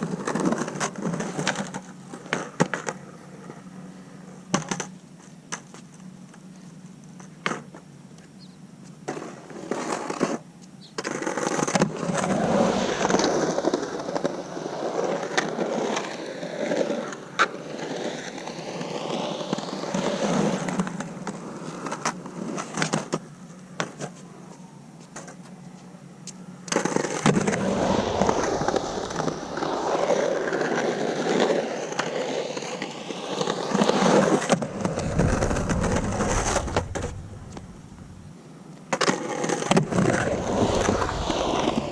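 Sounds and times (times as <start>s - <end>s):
skateboard wheels rolling: 0.0s - 41.9s.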